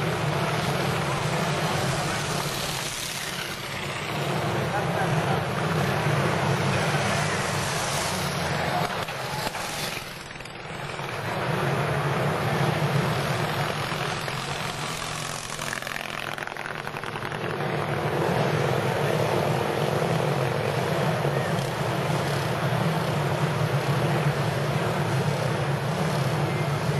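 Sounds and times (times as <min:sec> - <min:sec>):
motorcycle engines racing: 0:00.0 - 0:26.9.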